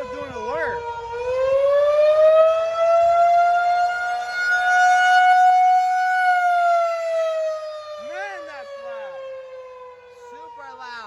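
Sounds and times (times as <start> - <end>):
wailing rotating siren: 0.0 - 11.0.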